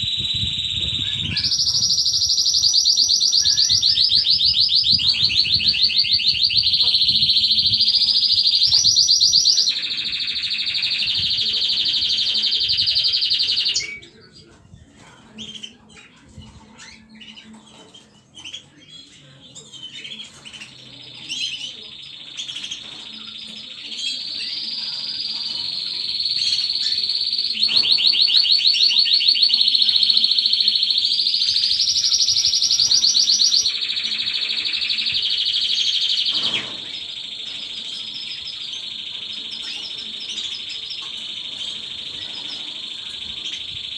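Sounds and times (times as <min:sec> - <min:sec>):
pet birds chirping: 0:00.0 - 0:43.9.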